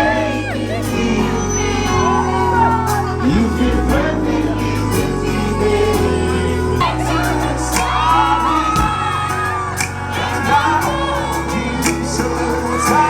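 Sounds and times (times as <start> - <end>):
crowd voices: 0.0 - 13.0
live band bass and drums: 0.0 - 13.0.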